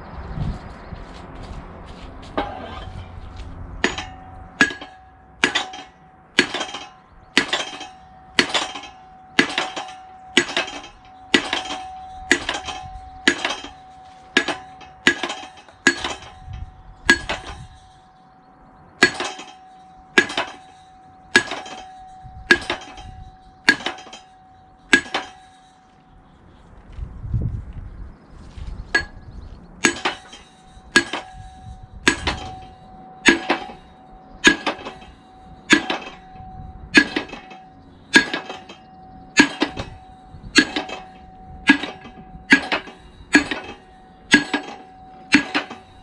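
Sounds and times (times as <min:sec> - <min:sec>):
hammer striking metal: 0:02.3 - 0:18.4, 0:19.0 - 0:26.0, 0:28.9 - 0:46.0.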